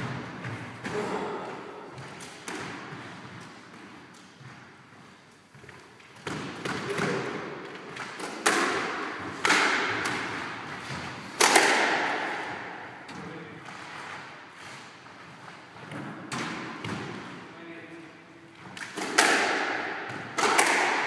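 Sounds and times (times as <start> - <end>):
squash ball hitting rackets and walls: 0.0 - 17.6, 18.6 - 21.0.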